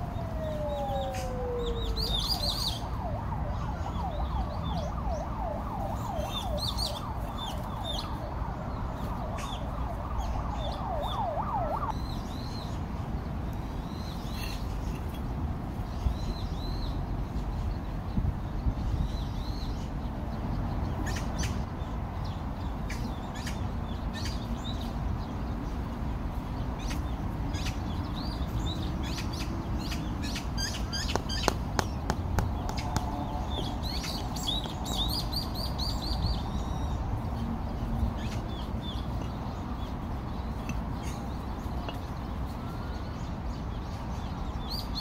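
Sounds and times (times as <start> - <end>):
small birds chirping: 6.0 - 45.0.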